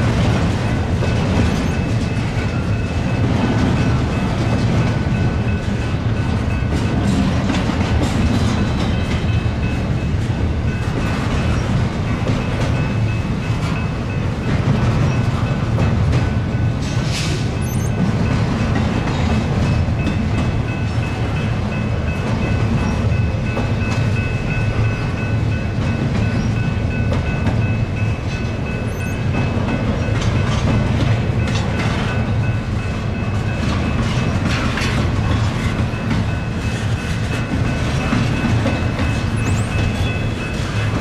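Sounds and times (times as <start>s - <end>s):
rail joint clicks: 0.0s - 41.0s
train wheels rumbling on rail: 0.0s - 41.0s.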